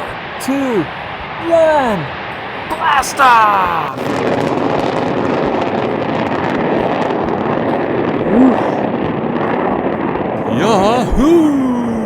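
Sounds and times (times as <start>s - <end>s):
rocket engines roaring: 0.0s - 12.0s.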